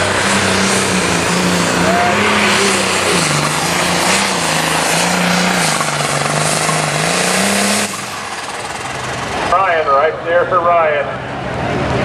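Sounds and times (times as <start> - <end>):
pulling tractor engine roaring: 0.0 - 12.0.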